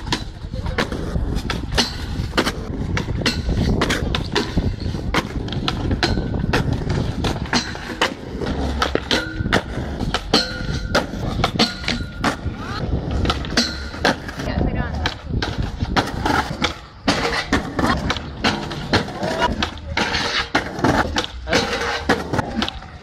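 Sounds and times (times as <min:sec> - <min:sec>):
skateboard clacks: 0:00.0 - 0:23.0
skateboard wheels rolling on concrete: 0:00.0 - 0:23.0.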